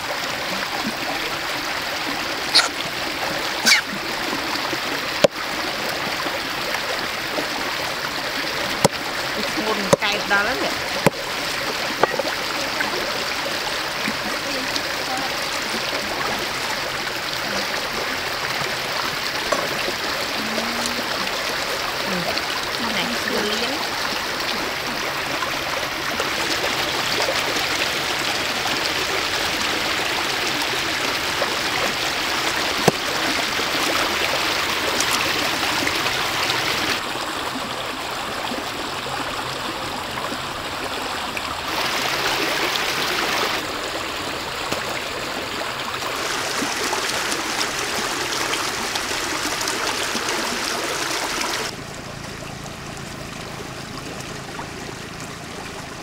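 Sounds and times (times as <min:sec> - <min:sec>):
rushing trickling water: 0:00.0 - 0:56.0.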